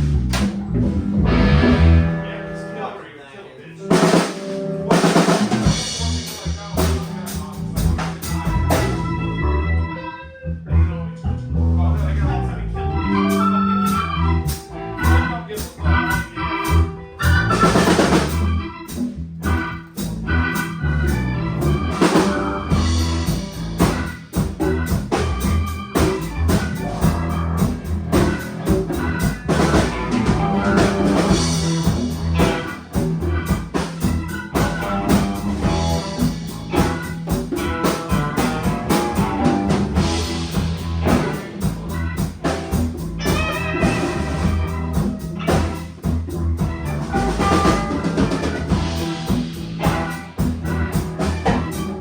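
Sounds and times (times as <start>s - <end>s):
drum kit beat: 0.0s - 2.5s, 3.8s - 9.5s, 13.1s - 52.0s
instrumental rock band: 0.0s - 3.1s, 3.7s - 52.0s.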